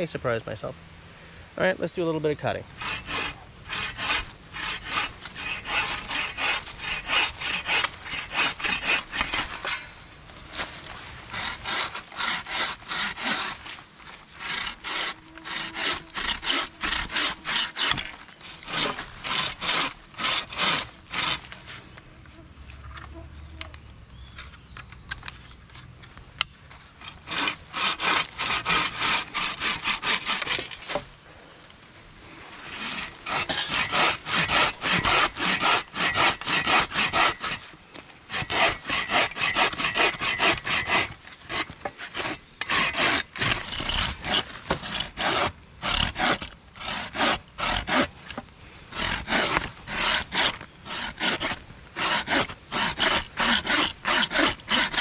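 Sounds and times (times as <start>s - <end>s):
bucksaw rasping through log: 2.8s - 22.0s, 27.0s - 31.0s, 32.6s - 55.0s.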